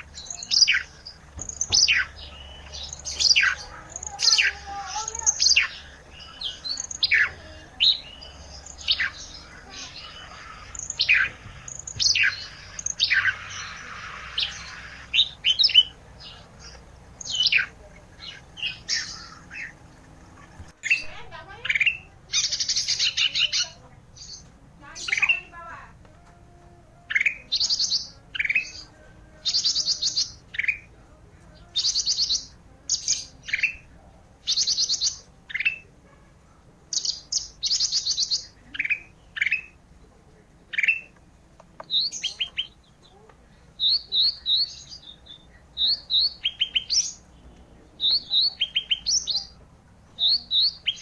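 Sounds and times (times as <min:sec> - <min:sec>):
songbird chirping and trilling: 0:00.0 - 0:51.0.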